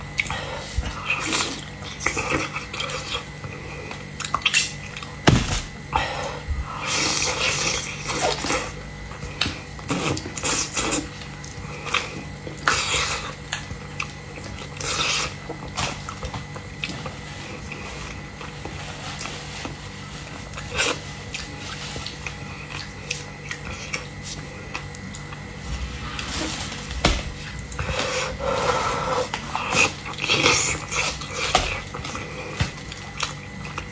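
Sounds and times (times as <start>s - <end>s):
wet eating sounds: 0.0s - 33.9s.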